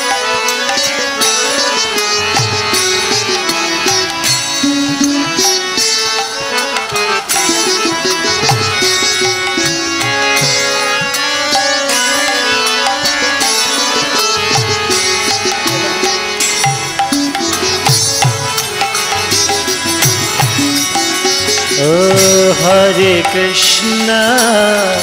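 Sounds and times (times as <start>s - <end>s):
harmonium melody: 0.0s - 25.0s.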